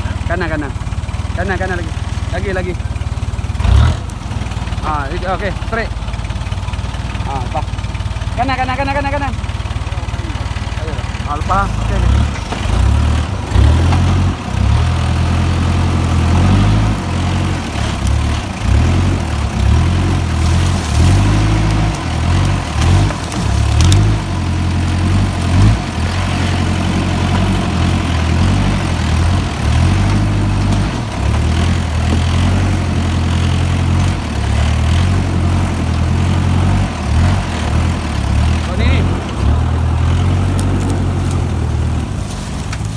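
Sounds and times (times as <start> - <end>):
car engine at low revs: 0.0 - 42.9.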